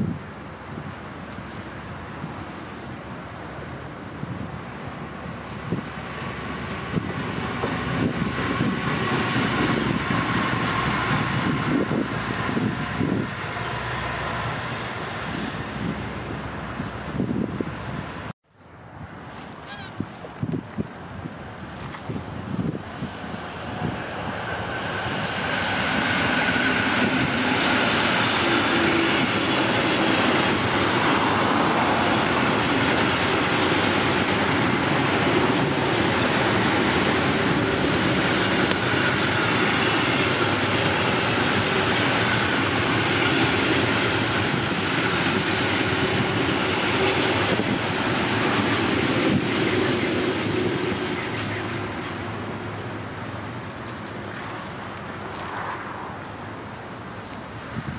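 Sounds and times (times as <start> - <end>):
train wheels on rails: 0.0 - 18.3, 20.3 - 57.9.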